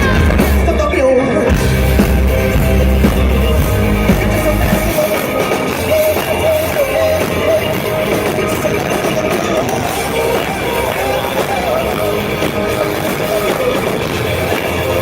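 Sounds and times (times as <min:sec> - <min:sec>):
guitars: 0:00.0 - 0:15.0
heavy bass: 0:00.0 - 0:15.0
person singing: 0:00.0 - 0:15.0.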